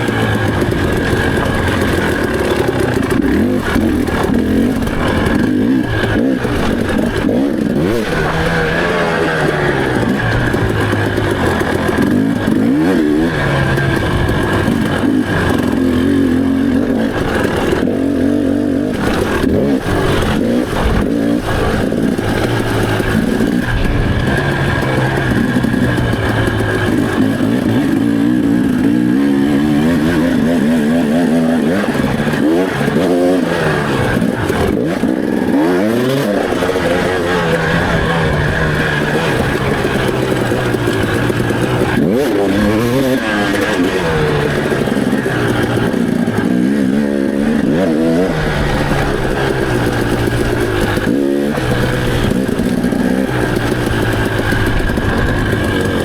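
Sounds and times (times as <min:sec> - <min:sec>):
off-road motorcycle engine revving: 0:00.0 - 0:56.0.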